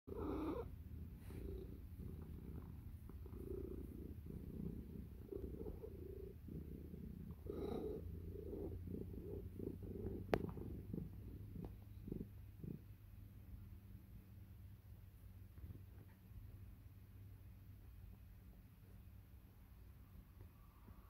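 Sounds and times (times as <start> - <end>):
cat purring: 0.1 - 21.0.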